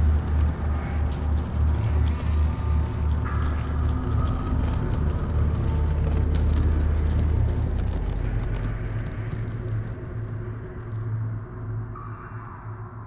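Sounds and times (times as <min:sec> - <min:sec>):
fine crackling: 0:00.0 - 0:11.0
low rumbling drone: 0:00.0 - 0:13.0.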